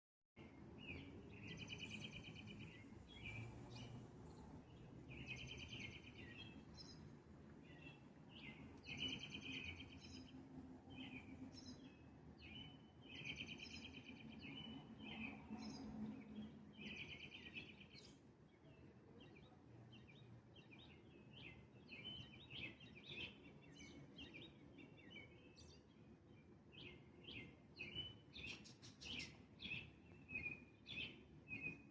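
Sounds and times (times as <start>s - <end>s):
small bird singing: 0.4s - 31.9s.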